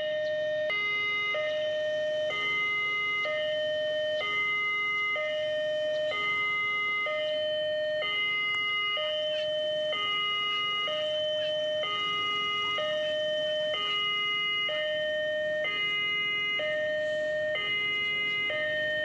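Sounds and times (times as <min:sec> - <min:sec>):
level crossing warning alarm: 0:00.0 - 0:19.0.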